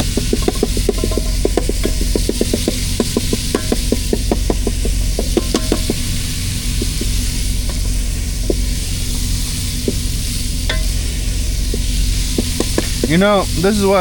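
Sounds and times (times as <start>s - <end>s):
auxiliary power unit droning: 0.0s - 14.0s
food sizzling: 0.0s - 14.0s
stirring clicks: 0.0s - 14.0s.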